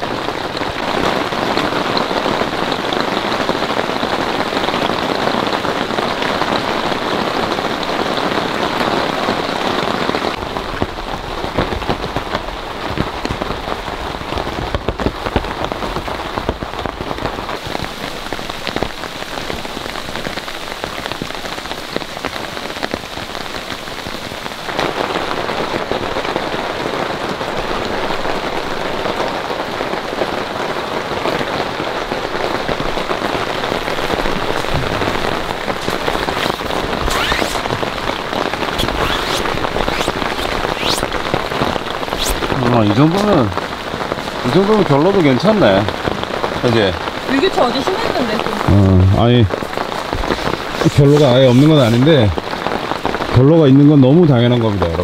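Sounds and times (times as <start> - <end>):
rain falling on a tent: 0.0 - 55.0.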